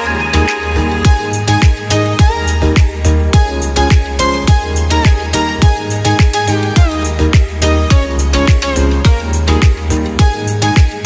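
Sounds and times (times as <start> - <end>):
background music with steady beat: 0.0 - 11.0
deep kick drum: 1.1 - 11.0.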